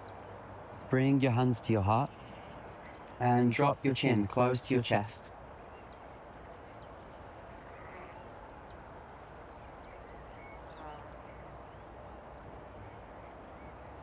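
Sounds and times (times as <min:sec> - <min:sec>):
low outdoor background noise: 0:00.0 - 0:14.0
small birds chirping: 0:00.0 - 0:14.0.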